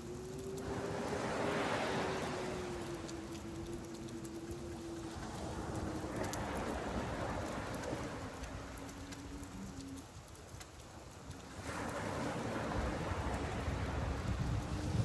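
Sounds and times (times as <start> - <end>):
faint ticks: 0.0 - 15.0
rain falling: 0.0 - 15.0
surf washing in: 0.0 - 15.0.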